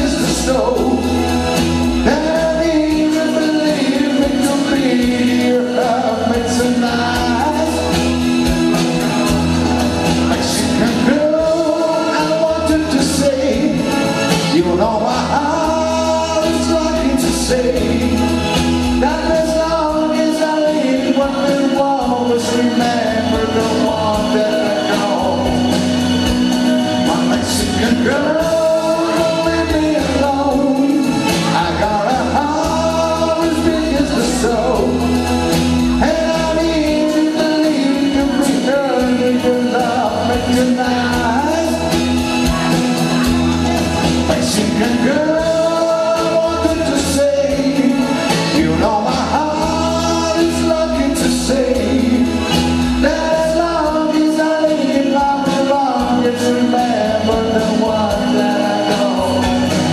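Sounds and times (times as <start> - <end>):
instrumental accompaniment with beat: 0.0 - 59.9
man singing through microphone: 0.0 - 59.9.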